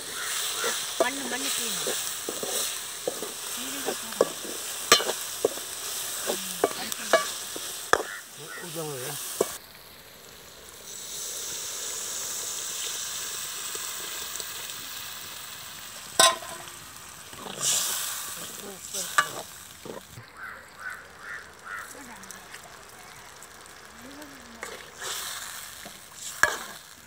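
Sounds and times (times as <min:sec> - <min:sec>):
food sizzling in oil: 0:00.0 - 0:27.0
steady hiss in pan: 0:00.0 - 0:27.0.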